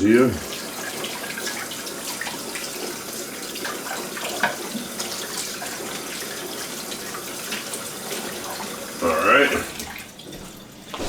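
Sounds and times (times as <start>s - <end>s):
faucet water running: 0.0s - 11.0s.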